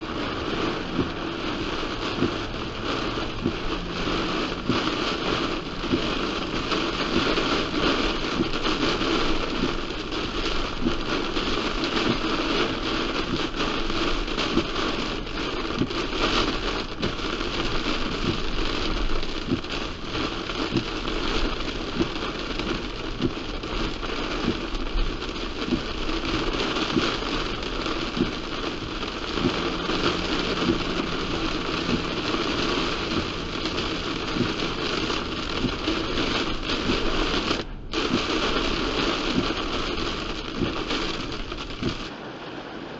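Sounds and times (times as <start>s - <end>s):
heavy rain hitting a car: 0.0s - 42.9s.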